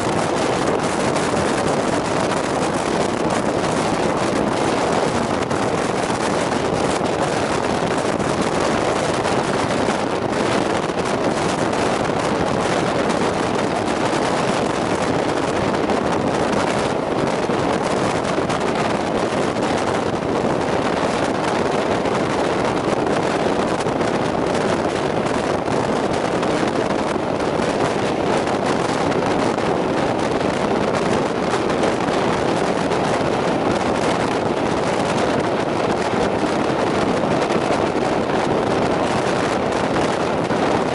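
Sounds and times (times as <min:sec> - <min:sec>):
train roaring in a tunnel: 0:00.0 - 0:40.9
wind buffeting microphone: 0:00.0 - 0:40.9.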